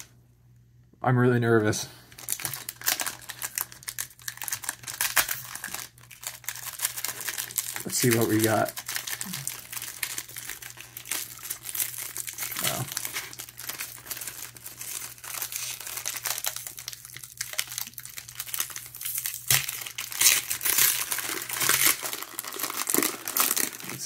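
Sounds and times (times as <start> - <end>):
foil wrapper crinkling: 2.1 - 24.0.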